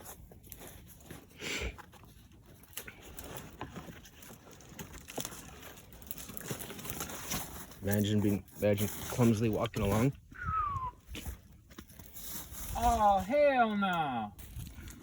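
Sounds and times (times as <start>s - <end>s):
rustling of leaf litter: 0.0s - 10.1s, 11.1s - 15.0s.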